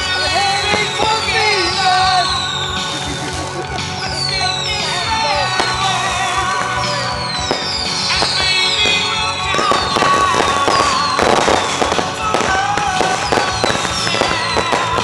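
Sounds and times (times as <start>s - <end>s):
fireworks crackling and banging: 0.0s - 15.0s
music: 0.0s - 15.0s
firework whistles falling in pitch: 0.7s - 3.0s, 4.1s - 15.0s.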